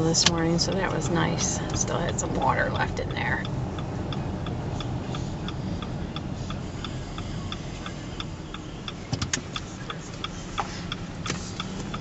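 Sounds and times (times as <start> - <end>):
road rumble inside car: 0.0 - 12.0
turn signal ticking: 0.0 - 12.0.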